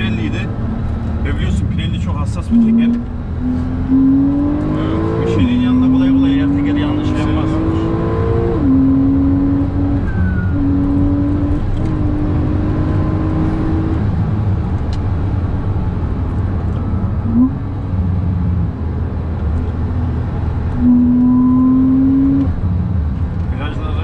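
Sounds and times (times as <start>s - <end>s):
car engine running hard: 0.0s - 24.0s
road and tyre rumble: 0.0s - 24.0s.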